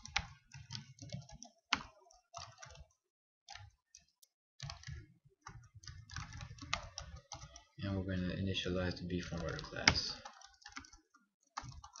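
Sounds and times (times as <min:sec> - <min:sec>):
computer keyboard keys clicking: 0:00.0 - 0:07.8, 0:09.3 - 0:12.0.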